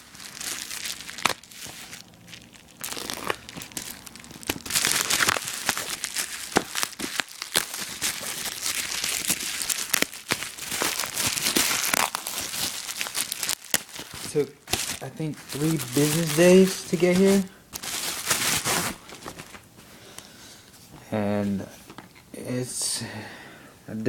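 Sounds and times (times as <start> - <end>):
bubble wrap crinkling and snapping: 0.0 - 19.7.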